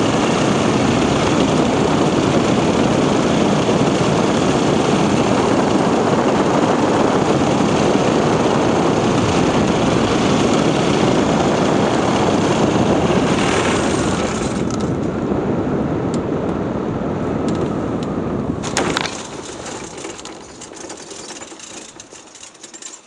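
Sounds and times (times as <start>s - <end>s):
propeller and airflow rushing: 0.0s - 23.0s.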